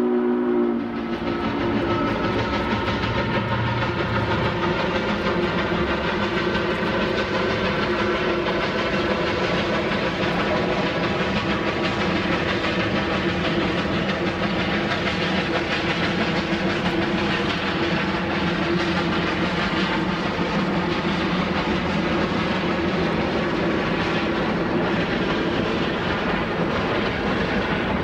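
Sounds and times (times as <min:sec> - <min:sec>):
steam locomotive exhaust: 0:00.0 - 0:28.0.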